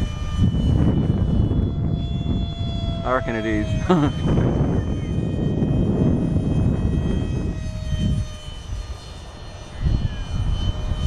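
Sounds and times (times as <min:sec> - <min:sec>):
low rumble: 0:00.0 - 0:09.0
model jet engine whine: 0:00.0 - 0:11.0.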